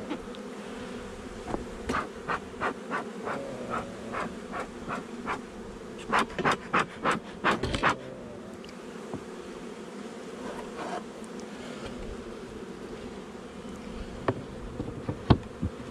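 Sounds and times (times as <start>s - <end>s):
honeybees buzzing: 0.0s - 15.9s.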